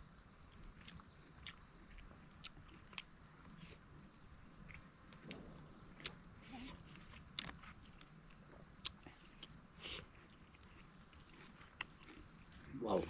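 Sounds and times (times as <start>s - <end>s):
chewing and mouth smacks: 0.1s - 12.7s.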